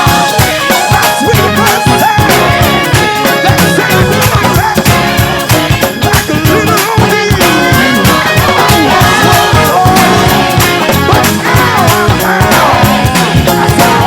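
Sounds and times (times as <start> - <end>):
gospel band playing: 0.0 - 14.0.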